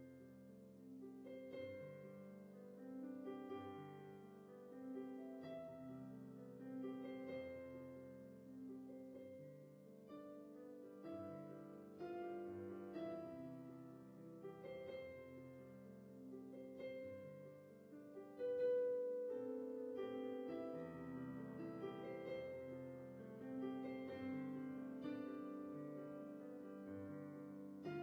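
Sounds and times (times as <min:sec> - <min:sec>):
slow piano chords: 0:00.0 - 0:28.0.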